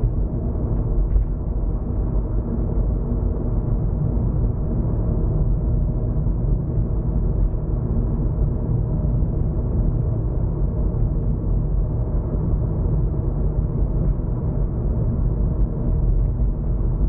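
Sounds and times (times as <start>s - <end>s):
car driving road and engine noise: 0.0s - 17.0s.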